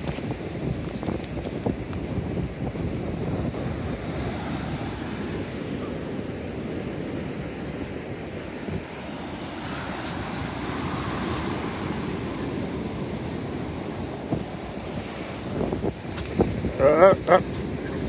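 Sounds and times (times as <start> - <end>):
surf breaking on shore: 0.0 - 18.0
wind buffeting microphone: 0.0 - 18.0.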